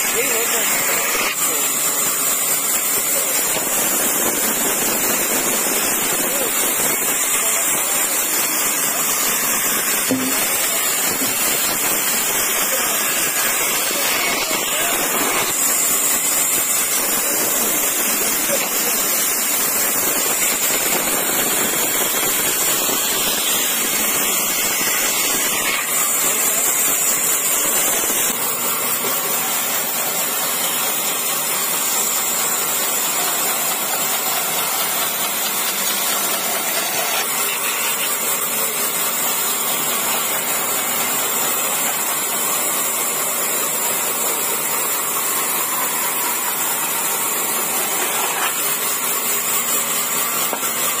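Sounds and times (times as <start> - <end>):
band saw cutting wood: 0.0 - 51.0.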